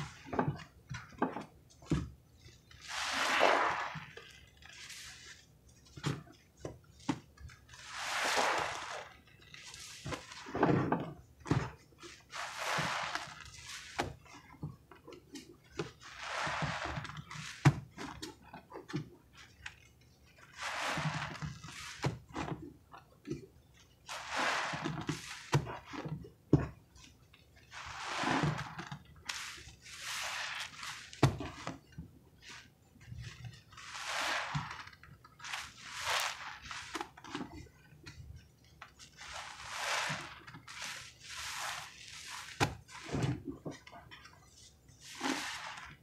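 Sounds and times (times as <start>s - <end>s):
sponge squelching: 0.0s - 46.0s.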